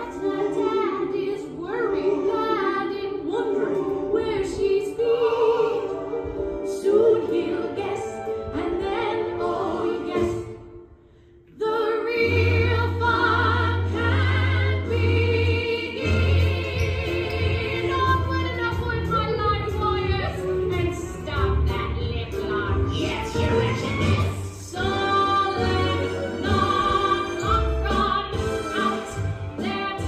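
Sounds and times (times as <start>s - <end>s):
voices singing with accompaniment: 0.0s - 21.3s, 22.5s - 30.0s.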